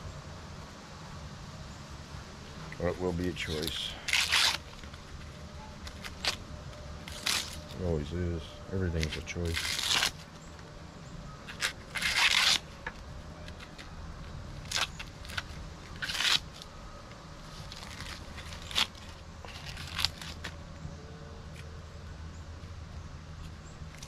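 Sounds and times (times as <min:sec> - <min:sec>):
low steady hum: 0:00.0 - 0:24.0
crackling rustles of hands handling: 0:02.4 - 0:24.0.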